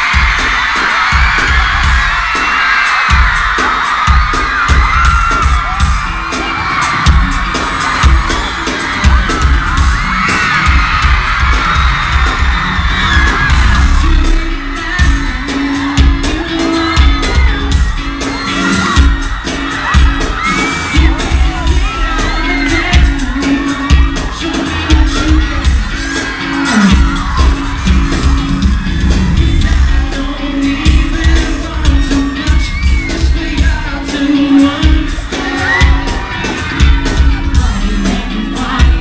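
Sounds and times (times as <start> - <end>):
crowd screaming and whooping: 0.0 - 39.0
live pop music with bass beat: 0.0 - 39.0
voices singing: 7.5 - 39.0.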